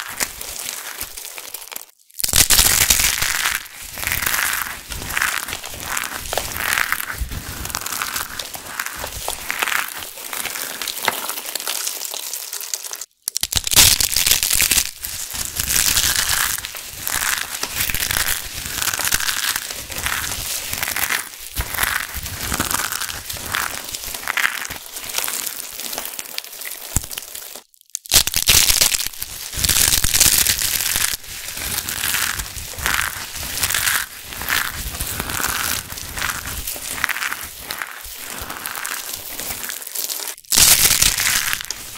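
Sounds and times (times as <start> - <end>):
soap shavings crunching between palms: 0.0 - 41.9.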